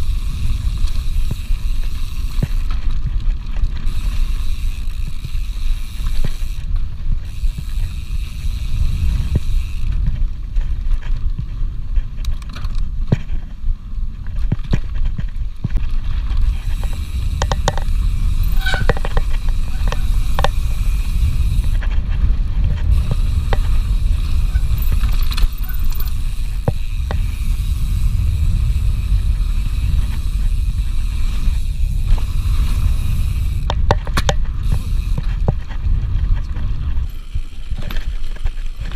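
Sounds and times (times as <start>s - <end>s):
bike clicks and rattles: 0.0s - 38.9s
bike tyre noise: 0.0s - 38.9s
wind rumble on microphone: 0.0s - 38.9s.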